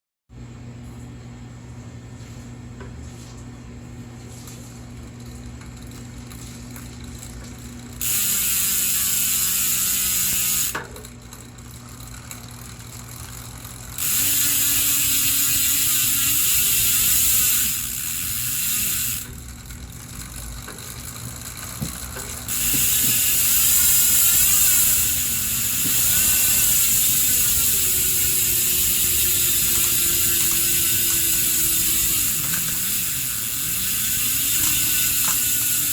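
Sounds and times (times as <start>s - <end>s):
bicycle freehub ratcheting buzz: 4.3s - 35.9s.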